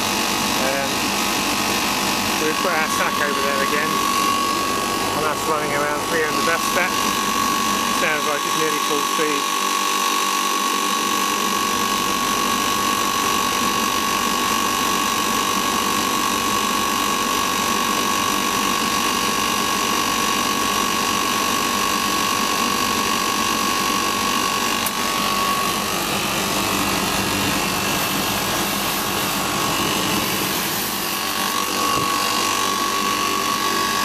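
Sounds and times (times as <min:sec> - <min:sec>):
compressor running: 0:00.0 - 0:34.0
fan motor high whine: 0:00.0 - 0:34.0.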